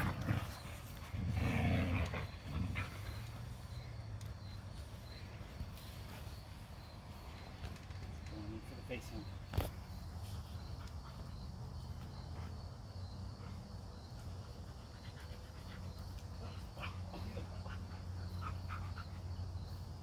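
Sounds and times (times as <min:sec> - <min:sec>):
dogs play-wrestling: 0:00.0 - 0:07.6, 0:09.7 - 0:20.0
insects chirping: 0:00.0 - 0:20.0.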